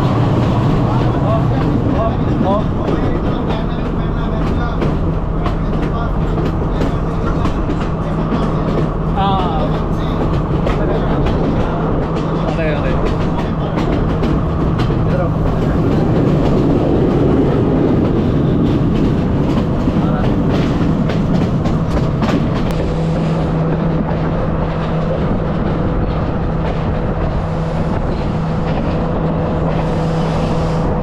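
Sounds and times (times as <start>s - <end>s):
train rumbling on track: 0.0s - 31.0s
wheels clicking over rail joints: 0.0s - 31.0s.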